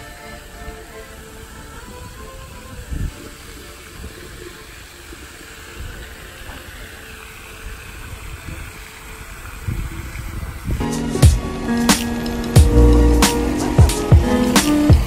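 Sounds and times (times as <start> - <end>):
fountain jets splashing: 0.0 - 15.0.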